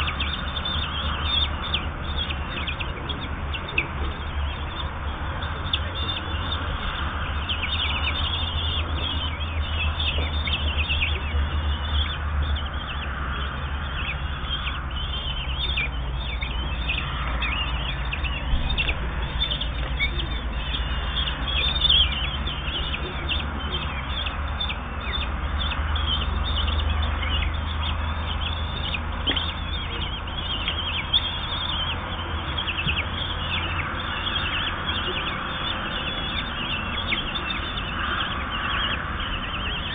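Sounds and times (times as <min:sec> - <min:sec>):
chicks begging calls: 0:00.0 - 0:39.9
steady low hum: 0:00.0 - 0:39.9.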